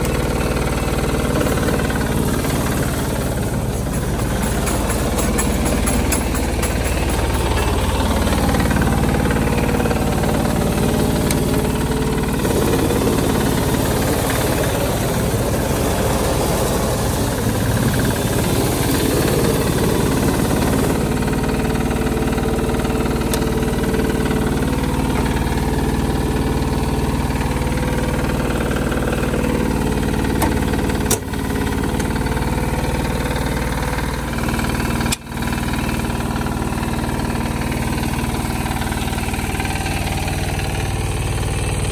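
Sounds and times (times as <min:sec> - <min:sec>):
baler engine running: 0:00.0 - 0:41.9.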